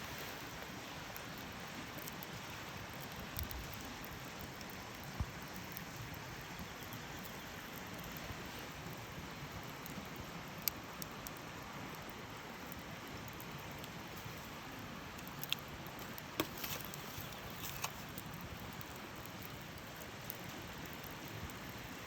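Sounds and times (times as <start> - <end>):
campfire hissing: 0.0 - 22.0
wood crackling and popping: 0.0 - 22.0.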